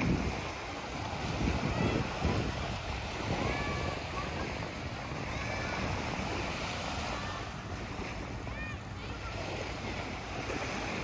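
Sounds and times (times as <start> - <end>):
small waves washing on sand: 0.0 - 11.0
wind on microphone: 0.0 - 11.0
faint distant voices: 1.5 - 11.0.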